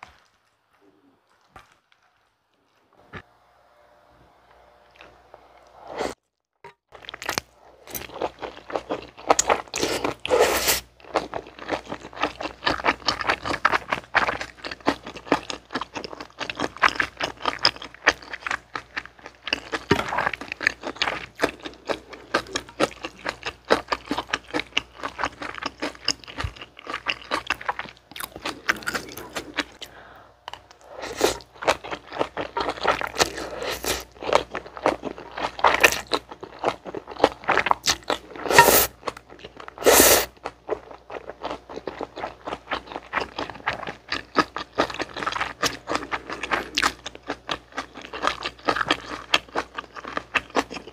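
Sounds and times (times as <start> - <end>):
chewing noodles: 6.9 - 50.9.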